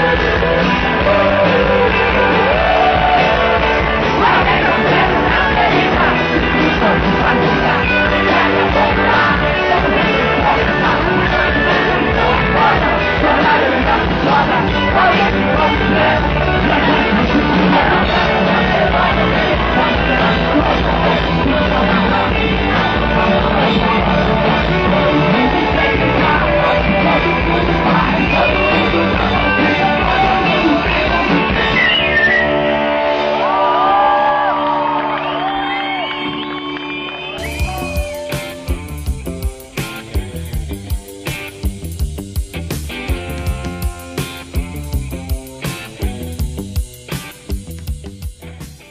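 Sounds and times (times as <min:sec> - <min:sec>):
rock song with sung vocal: 0:00.0 - 0:48.9.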